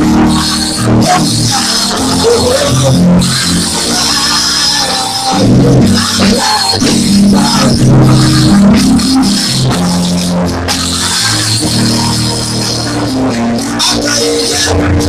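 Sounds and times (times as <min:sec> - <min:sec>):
bass line: 0:00.0 - 0:15.0
drums keeping steady beat: 0:00.0 - 0:15.0
instrumental worship music: 0:00.0 - 0:15.0.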